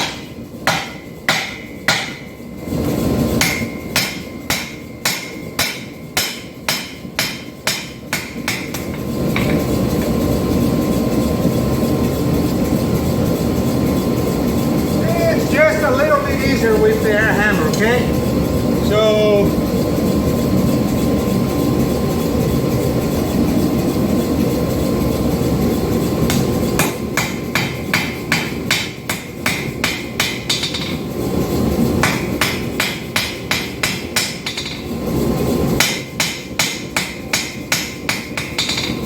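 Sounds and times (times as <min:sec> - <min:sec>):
rushing machine noise: 0:00.0 - 0:39.0.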